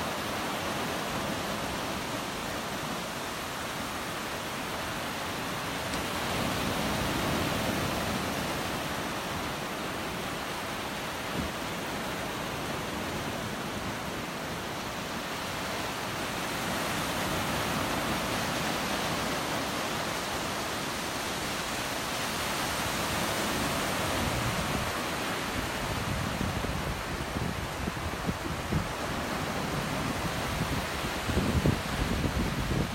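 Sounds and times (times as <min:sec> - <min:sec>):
waves breaking on beach: 0:00.0 - 0:32.9.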